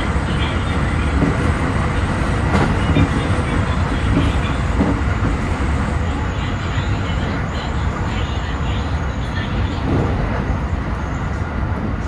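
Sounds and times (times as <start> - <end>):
freight train rushing past: 0.0 - 12.0
train wheels rumbling on rail: 0.0 - 12.0.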